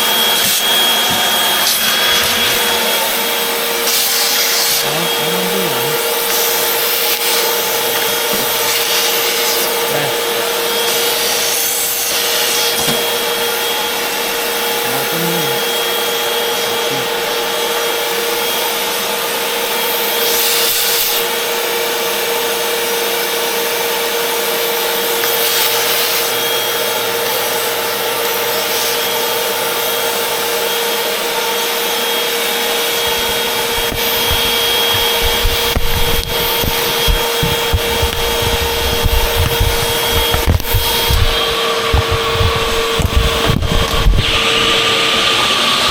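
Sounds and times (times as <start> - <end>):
vacuum cleaner running: 0.0 - 45.9
vacuum nozzle scraping surfaces: 0.0 - 45.9.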